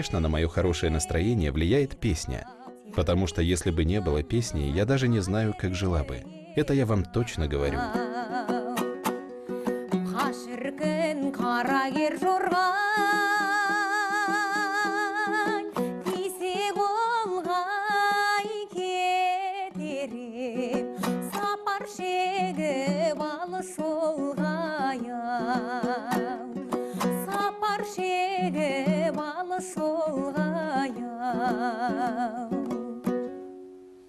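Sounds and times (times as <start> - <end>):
woman singing: 0.0 - 1.6, 2.3 - 33.2
plucked string accompaniment: 0.0 - 34.0.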